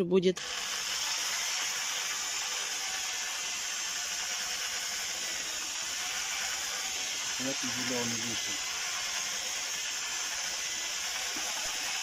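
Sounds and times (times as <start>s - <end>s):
electric drill mixing paint: 0.4s - 12.0s.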